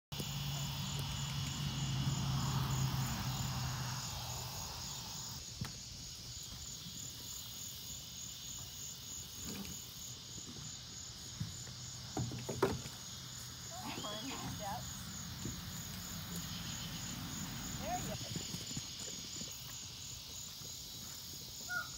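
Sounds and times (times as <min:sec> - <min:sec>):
insects trilling: 0:00.1 - 0:21.9.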